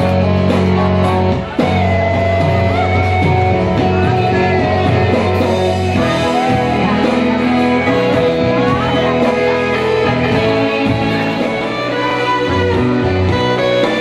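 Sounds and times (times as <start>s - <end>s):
guitar music: 0.0s - 14.0s
woman singing: 2.4s - 14.0s.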